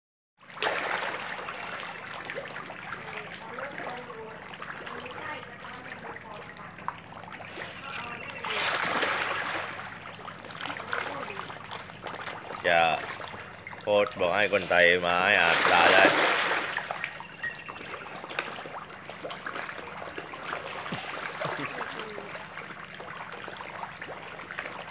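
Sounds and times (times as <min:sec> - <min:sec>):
fish thrashing and splashing water: 0:00.4 - 0:24.9.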